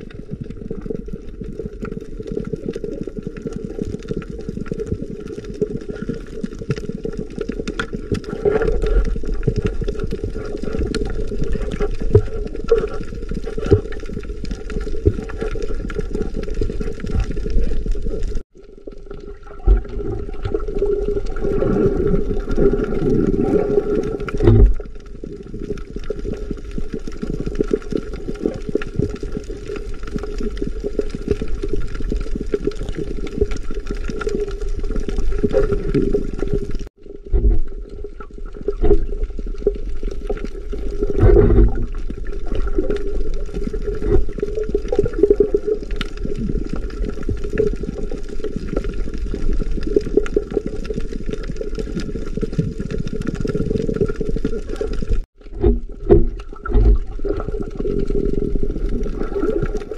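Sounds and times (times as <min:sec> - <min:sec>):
underwater clicks and knocks: 0:00.0 - 0:18.4, 0:19.0 - 0:59.9
underwater rumble of water: 0:00.0 - 0:59.9
water swirling: 0:00.0 - 0:59.9.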